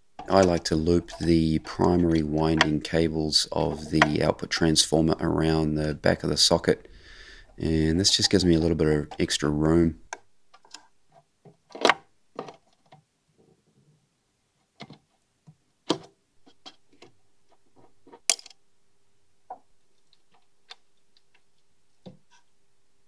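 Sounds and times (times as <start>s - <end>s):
faint steady hum: 0.0s - 14.6s, 16.2s - 23.0s.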